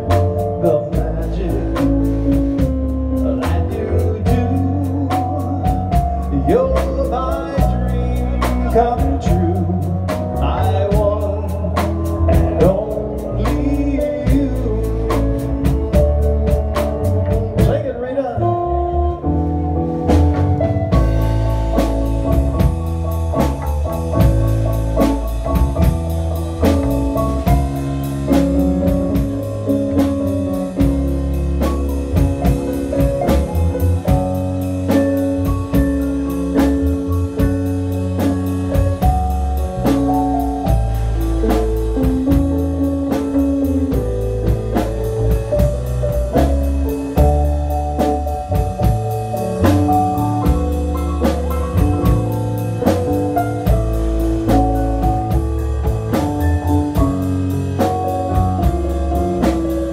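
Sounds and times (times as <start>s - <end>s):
steady drum beat: 0.0s - 18.2s, 19.7s - 59.9s
live band playing: 0.0s - 59.9s.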